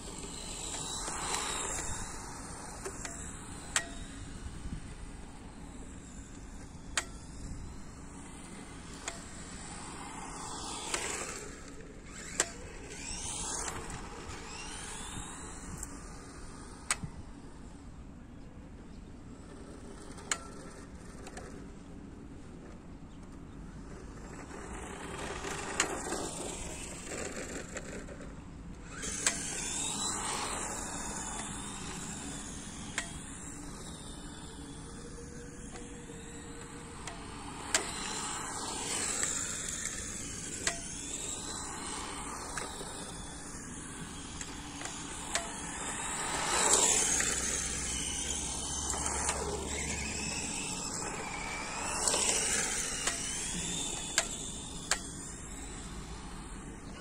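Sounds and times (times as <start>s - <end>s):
model car motor whining: 0.0s - 18.1s, 18.9s - 57.0s.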